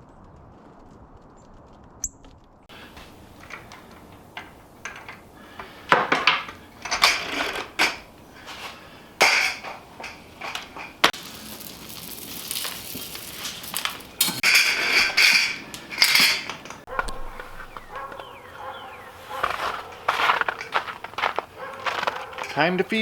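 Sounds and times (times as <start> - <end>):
objects clattering and rustling: 2.7 - 18.4, 19.2 - 22.7.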